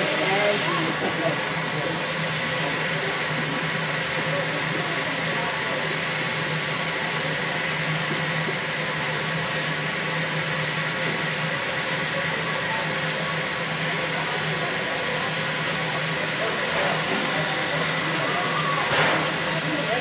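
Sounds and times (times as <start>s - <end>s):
steam hissing from locomotive: 0.0s - 20.0s.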